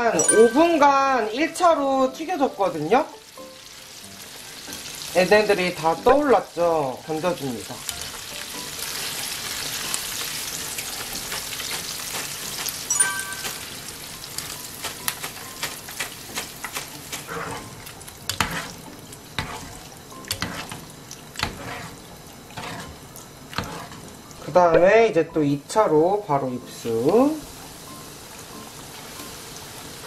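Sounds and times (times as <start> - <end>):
hot oil sizzling: 0.0 - 30.0.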